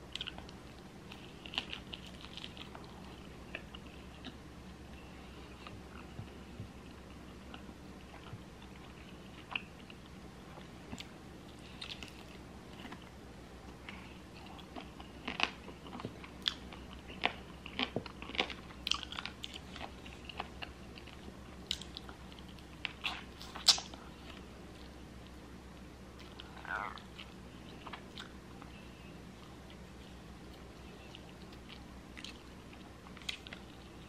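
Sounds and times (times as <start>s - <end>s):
moist chewing: 0.1s - 34.0s.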